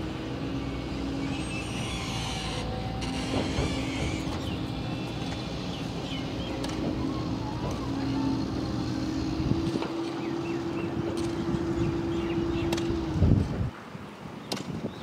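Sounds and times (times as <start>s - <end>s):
engine droning: 0.0s - 14.7s.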